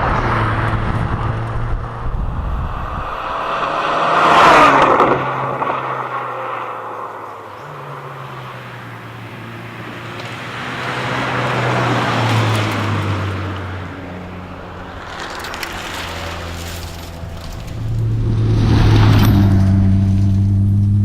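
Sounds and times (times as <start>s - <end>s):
road and tyre noise: 0.0s - 21.0s.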